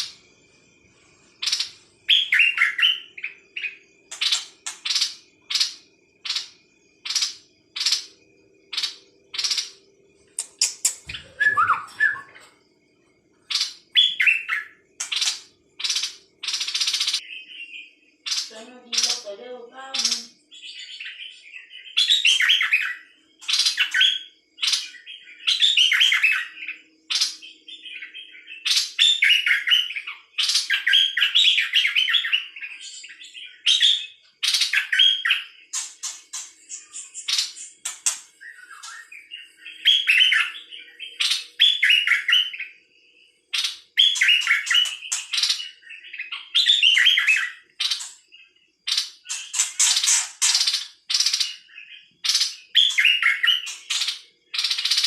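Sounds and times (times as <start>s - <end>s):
songbird whistling: 1.4s - 12.6s, 13.5s - 19.4s, 20.0s - 42.9s, 43.5s - 55.0s.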